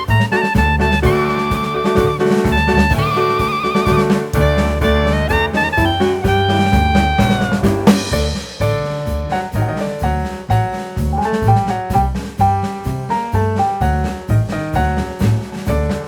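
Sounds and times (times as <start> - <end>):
jazz-like background music: 0.0 - 16.0.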